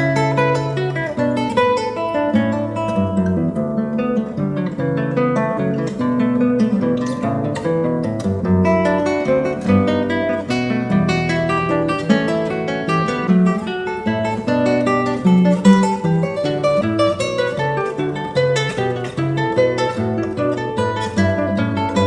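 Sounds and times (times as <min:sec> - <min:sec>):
fingerpicked acoustic guitar: 0:00.0 - 0:22.0.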